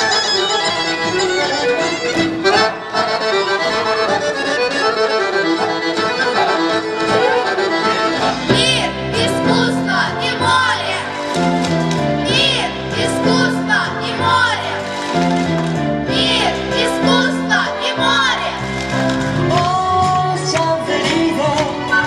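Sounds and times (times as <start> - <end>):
fast folk dance music: 0.0 - 22.0
music with bass and sliding notes: 0.0 - 22.0.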